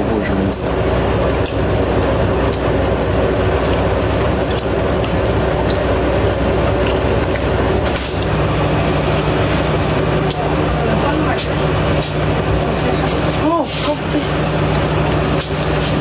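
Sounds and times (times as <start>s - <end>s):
vehicle rumble and hum: 0.0s - 16.0s.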